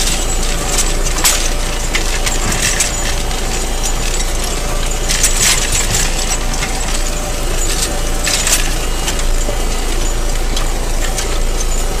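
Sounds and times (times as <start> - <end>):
plough scraping through stony soil: 0.0 - 12.0
tractor engine running: 0.0 - 12.0.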